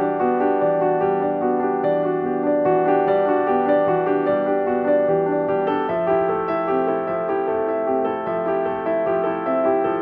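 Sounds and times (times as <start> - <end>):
slow gentle piano: 0.0 - 10.0.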